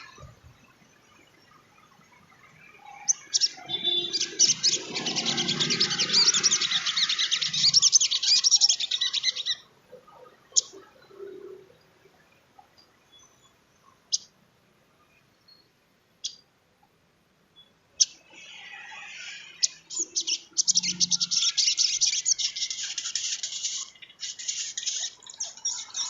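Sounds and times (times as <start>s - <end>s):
bird chips and twittering: 0.0s - 14.4s, 17.6s - 26.0s.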